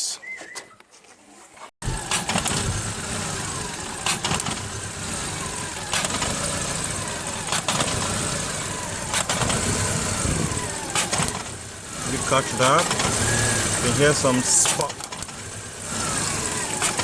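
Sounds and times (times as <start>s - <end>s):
misfiring car engine idling: 1.8s - 17.0s.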